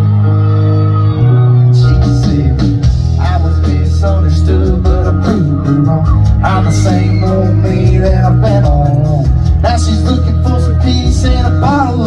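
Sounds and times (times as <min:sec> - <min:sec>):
bending electric guitar notes: 0:00.0 - 0:12.0
live country-rock band: 0:00.0 - 0:12.0
drums and cymbals: 0:01.8 - 0:12.0.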